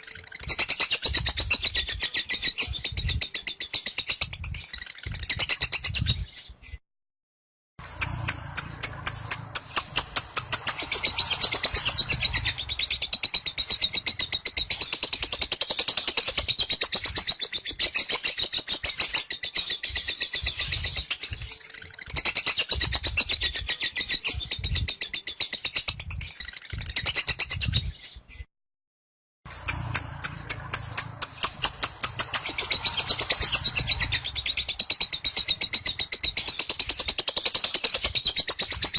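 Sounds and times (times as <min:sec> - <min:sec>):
lovebird chattering trill: 0:00.0 - 0:06.1, 0:07.8 - 0:27.8, 0:29.5 - 0:38.9.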